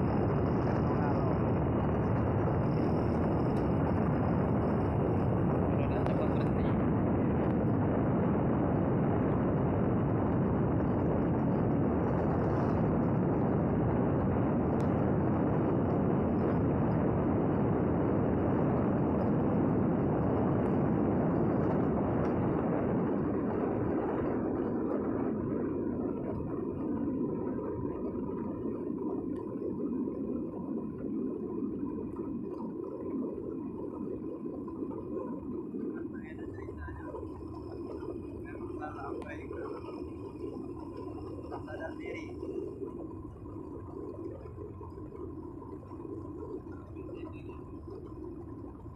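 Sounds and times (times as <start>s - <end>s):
faint steady hum: 0.0s - 48.9s
wind rushing over microphone: 0.0s - 48.9s.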